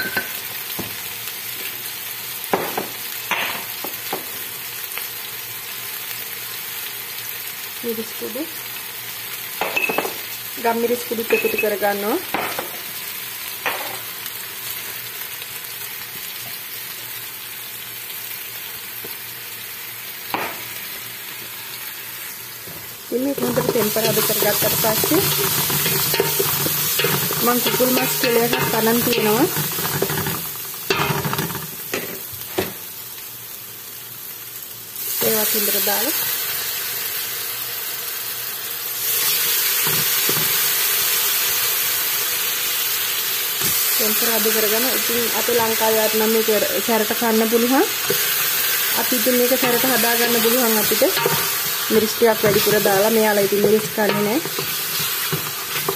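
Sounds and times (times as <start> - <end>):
onion frying in hot oil: 0.0 - 55.9.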